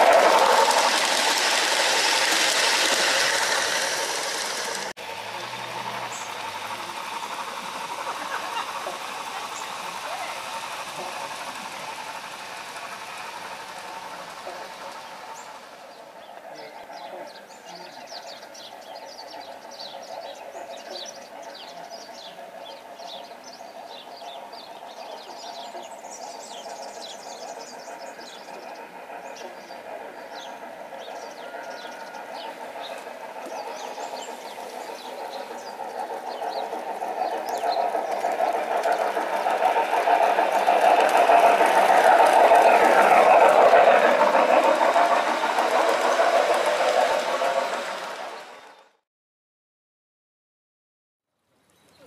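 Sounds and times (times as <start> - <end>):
birds chirping: 0.0 - 48.7
model train wheels on rails: 0.0 - 49.0.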